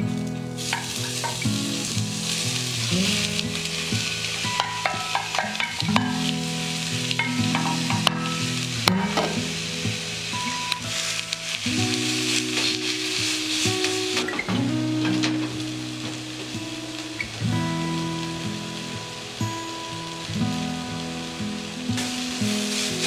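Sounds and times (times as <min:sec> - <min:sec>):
potatoes sizzling in a pan: 0:00.0 - 0:23.0.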